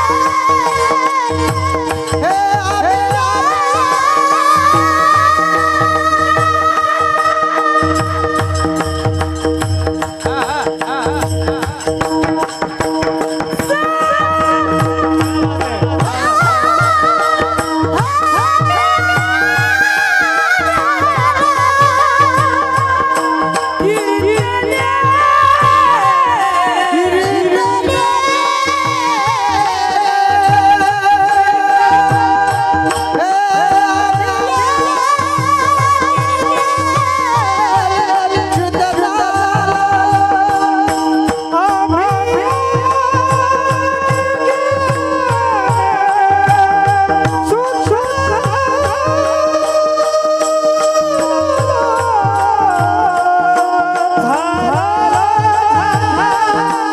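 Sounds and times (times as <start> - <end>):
man singing devotional song: 0.0 - 56.9
regular drum beat: 0.0 - 56.9
sustained instrumental tones: 0.0 - 56.9.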